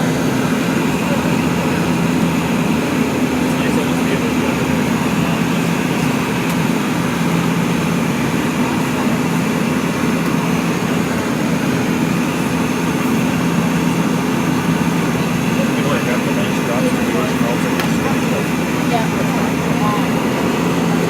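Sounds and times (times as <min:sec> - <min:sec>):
airliner cabin engine drone: 0:00.0 - 0:21.0.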